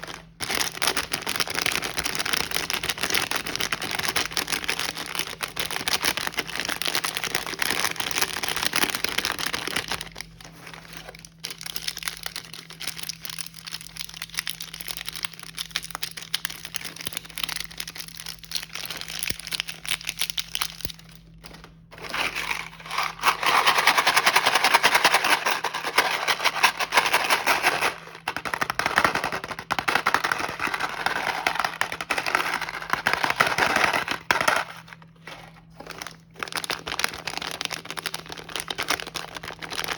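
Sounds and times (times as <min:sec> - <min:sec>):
faint electrical hum: 0:00.0 - 0:39.9
plastic wrappers crinkling: 0:00.0 - 0:39.9.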